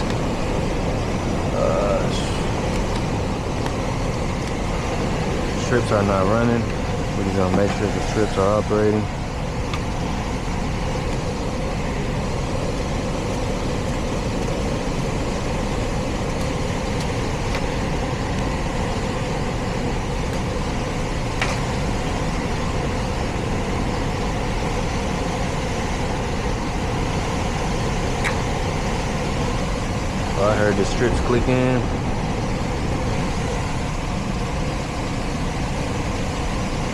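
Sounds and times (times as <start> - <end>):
heat pump blower running: 0.0 - 36.9.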